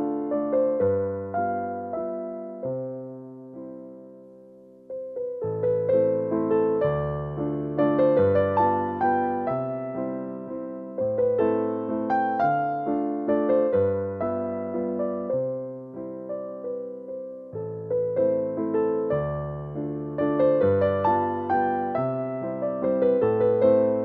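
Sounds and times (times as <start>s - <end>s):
slow gentle piano music: 0.0s - 24.0s.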